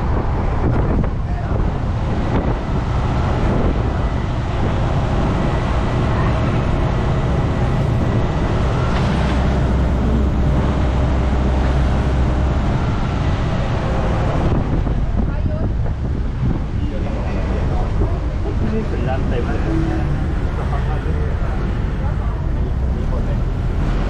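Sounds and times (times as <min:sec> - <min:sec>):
van engine and road noise: 0:00.0 - 0:24.0.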